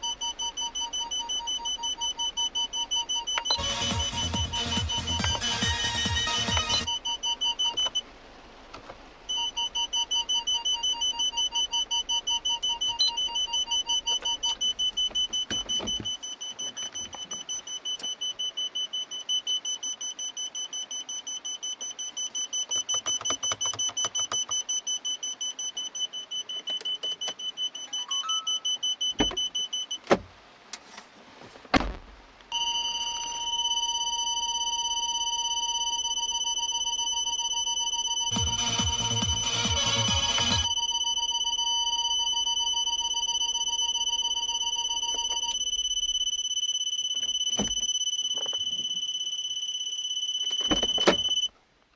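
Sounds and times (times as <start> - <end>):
parking sensor beeping: 0.0 - 8.1, 9.3 - 30.2, 32.5 - 51.6.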